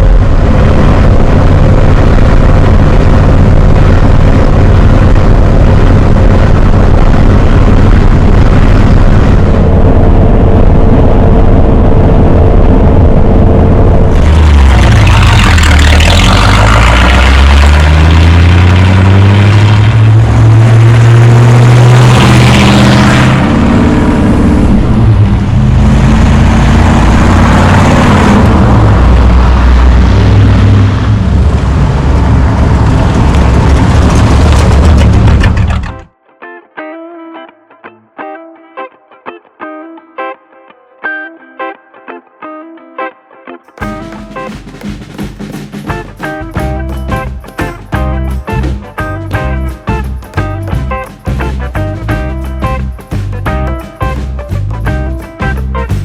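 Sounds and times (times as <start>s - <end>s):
pickup truck engine running: 0.0s - 36.1s, 43.8s - 56.0s.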